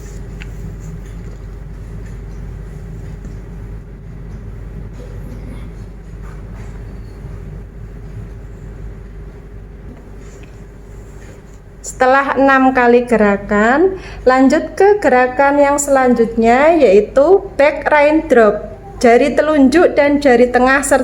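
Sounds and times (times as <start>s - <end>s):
faint constant hum: 0.0s - 21.0s
low room rumble: 0.0s - 21.0s.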